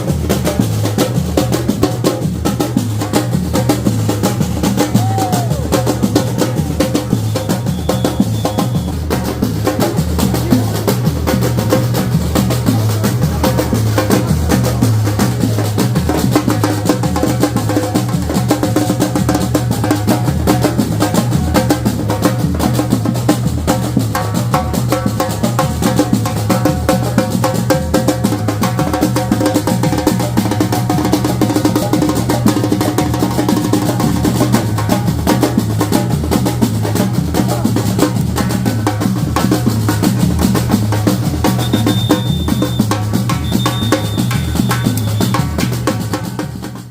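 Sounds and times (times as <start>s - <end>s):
fast dense drumming: 0.0s - 46.9s.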